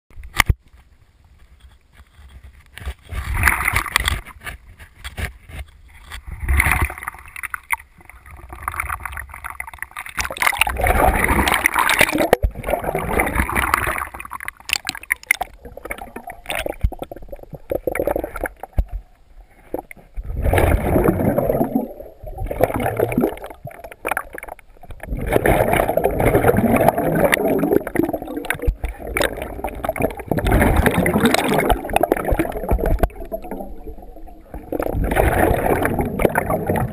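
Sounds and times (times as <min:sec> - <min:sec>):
bubbles gurgling underwater: 0:06.4 - 0:36.9.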